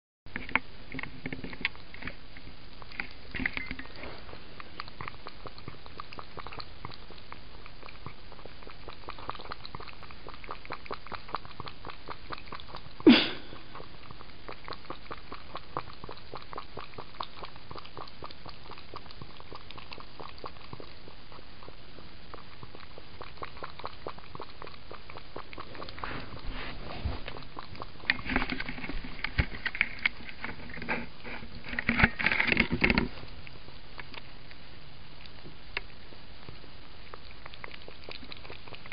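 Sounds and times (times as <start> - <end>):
cat lapping liquid: 0.3 - 38.9.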